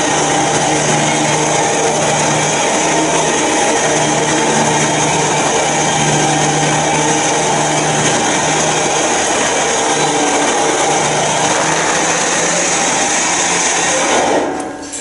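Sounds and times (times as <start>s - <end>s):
electric winch running under load: 0.0s - 15.0s.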